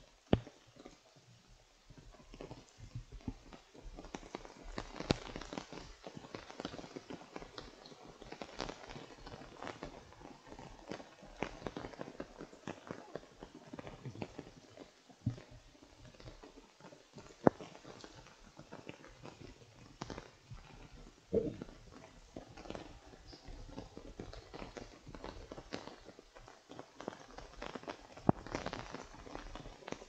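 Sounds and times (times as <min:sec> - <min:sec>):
rain dripping on an umbrella: 0:00.0 - 0:30.0.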